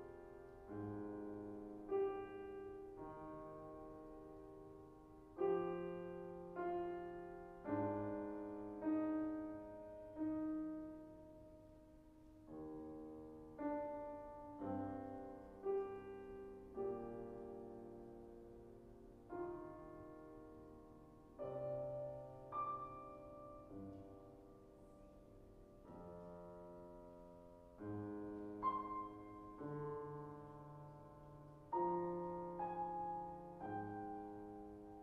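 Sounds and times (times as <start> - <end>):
grand piano chords: 0.0 - 35.0.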